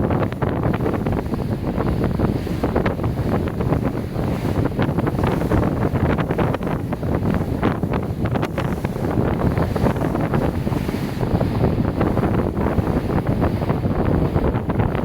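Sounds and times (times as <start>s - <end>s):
ship engine rumble: 0.0s - 15.0s
ship wash: 0.0s - 15.0s
wind buffeting microphone: 0.0s - 15.0s.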